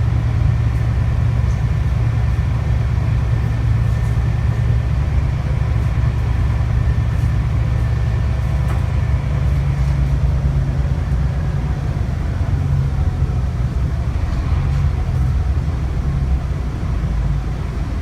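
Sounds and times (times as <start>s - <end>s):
bus diesel engine rumble: 0.0s - 18.0s
road noise: 0.0s - 18.0s.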